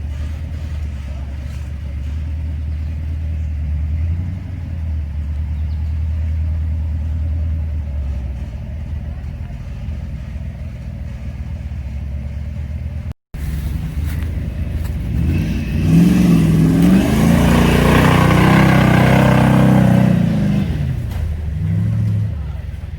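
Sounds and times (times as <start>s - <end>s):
vehicle engine running and revving: 0.0s - 22.9s.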